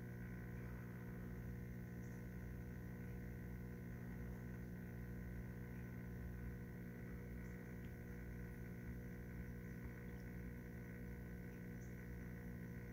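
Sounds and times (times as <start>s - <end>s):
aquarium pumps humming: 0.0s - 12.9s.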